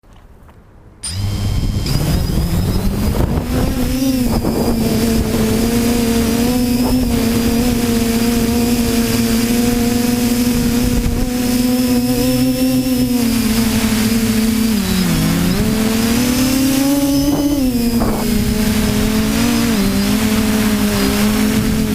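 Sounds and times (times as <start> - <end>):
quadcopter motors humming: 1.0 - 21.9.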